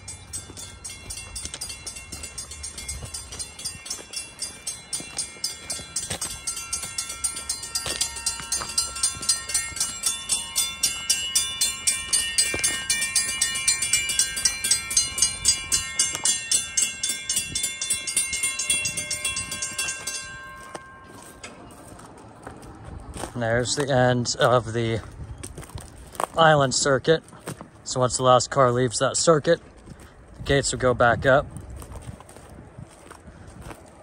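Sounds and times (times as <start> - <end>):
railroad crossing bells ringing: 0.0 - 29.7.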